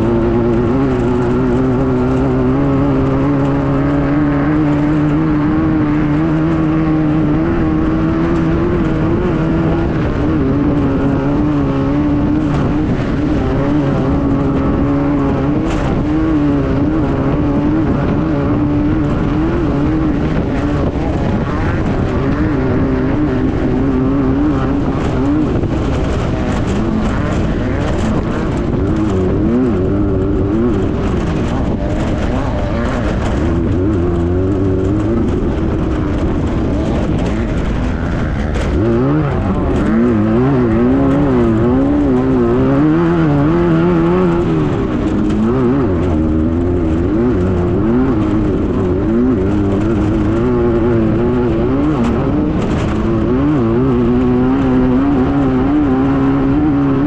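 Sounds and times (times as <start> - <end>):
buggy engine revving: 0.0 - 57.0
road noise: 0.0 - 57.0.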